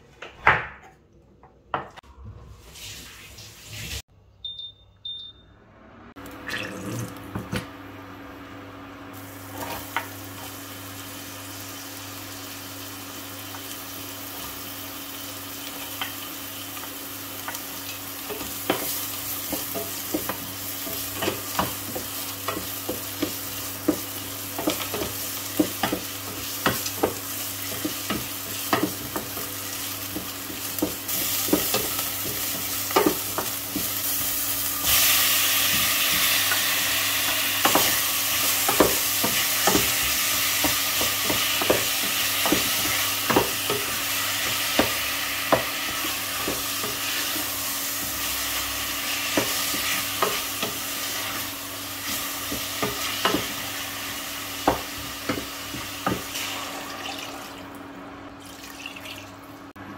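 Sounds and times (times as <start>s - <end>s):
onion sizzling in a pot: 8.8s - 57.6s.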